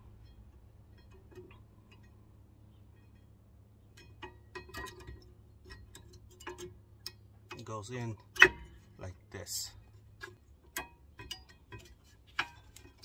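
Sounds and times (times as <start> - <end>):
low steady hum: 0.0 - 13.0
metallic clicks of brake parts: 0.0 - 13.0.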